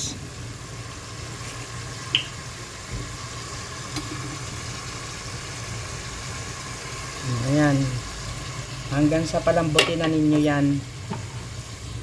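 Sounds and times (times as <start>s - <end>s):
chicken frying in a pot: 0.0s - 12.0s.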